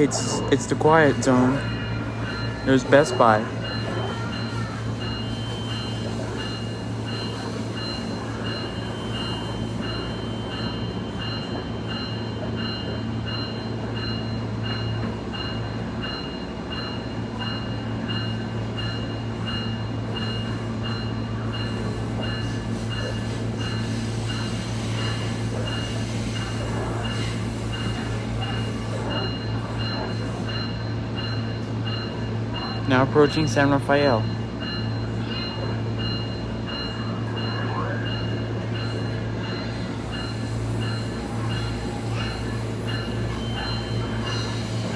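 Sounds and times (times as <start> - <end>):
railcar engine drone: 0.0 - 44.9.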